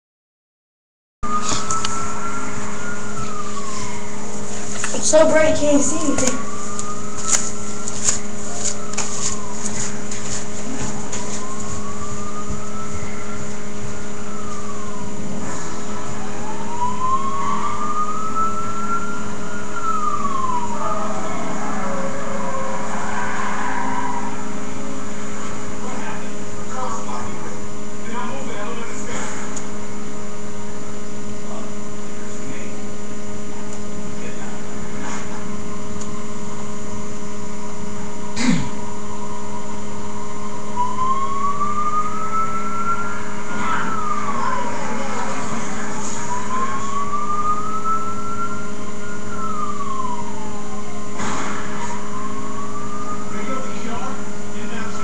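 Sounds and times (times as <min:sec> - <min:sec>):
police siren wailing: 0:01.2 - 0:28.8, 0:34.2 - 0:55.0
steady electrical hum: 0:01.2 - 0:55.0.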